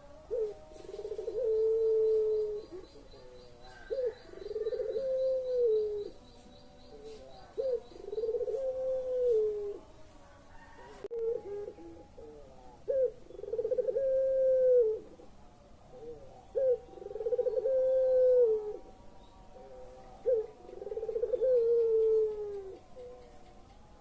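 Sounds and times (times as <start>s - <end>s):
dove cooing: 0.0s - 23.7s.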